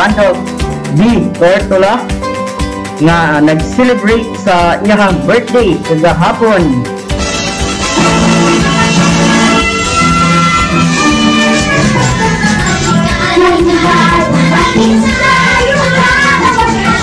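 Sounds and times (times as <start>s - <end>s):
music with steady beat: 0.0s - 17.0s.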